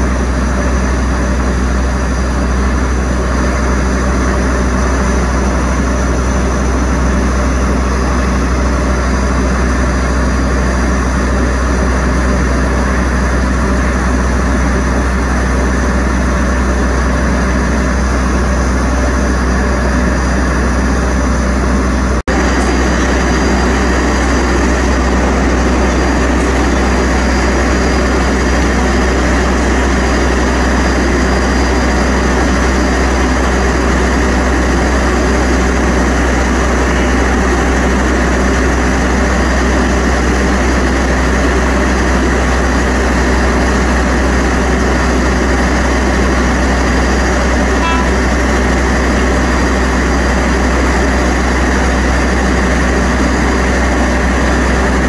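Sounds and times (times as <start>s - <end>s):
train engine idling: 0.0s - 55.0s.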